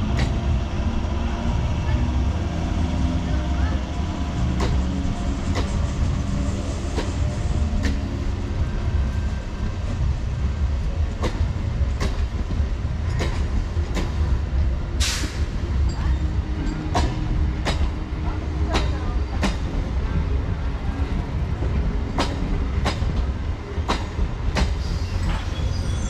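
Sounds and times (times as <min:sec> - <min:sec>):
train rolling rumble: 0:00.0 - 0:26.0.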